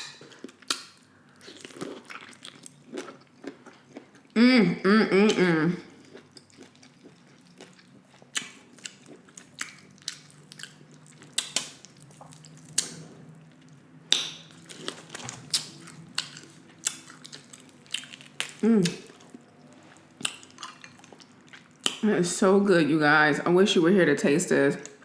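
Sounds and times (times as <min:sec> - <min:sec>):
chewing and mouth smacks: 0:00.0 - 0:04.4, 0:05.3 - 0:22.0.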